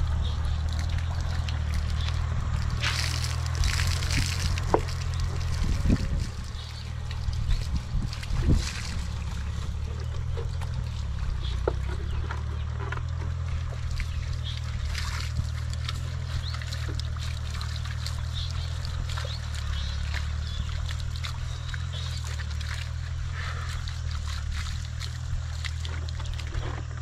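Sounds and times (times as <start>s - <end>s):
motor droning: 0.0s - 27.0s
water poured from a jug: 0.0s - 27.0s.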